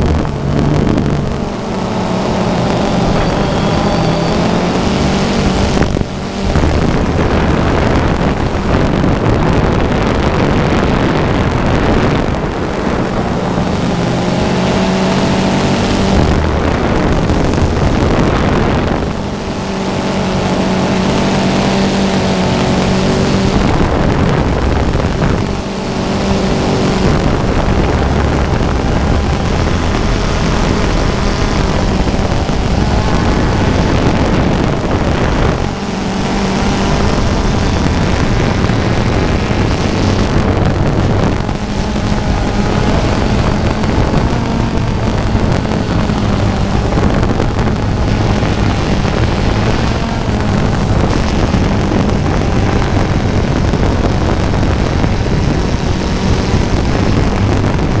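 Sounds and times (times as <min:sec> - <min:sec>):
drone motor running: 0:00.0 - 0:58.0
wind on microphone: 0:00.0 - 0:58.0.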